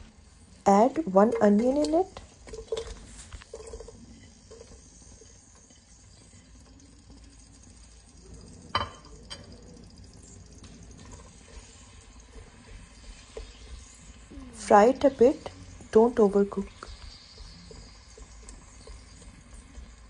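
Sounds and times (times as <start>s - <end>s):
onion sizzling in oil: 0.0s - 20.0s
wooden spoon stirring: 0.0s - 20.0s.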